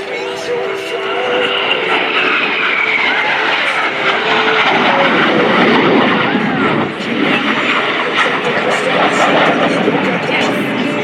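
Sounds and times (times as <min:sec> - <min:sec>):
jet aircraft passing: 0:00.0 - 0:11.0.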